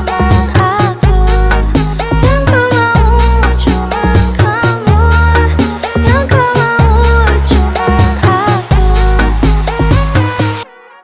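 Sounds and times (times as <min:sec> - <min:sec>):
electronic dance-pop music: 0:00.0 - 0:11.0
person singing: 0:00.0 - 0:11.0.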